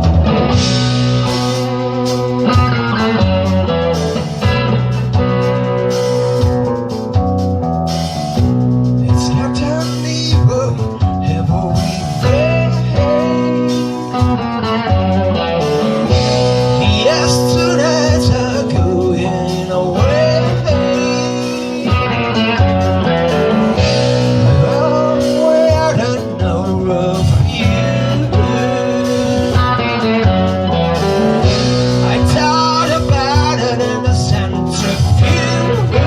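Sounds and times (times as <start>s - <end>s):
electric guitar bending notes: 0.0s - 36.0s
live blues rock band: 0.0s - 36.0s.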